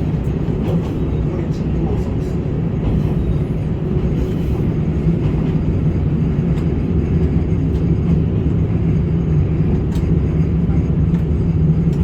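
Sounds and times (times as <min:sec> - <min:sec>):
diesel railcar engine hum: 0:00.0 - 0:12.0.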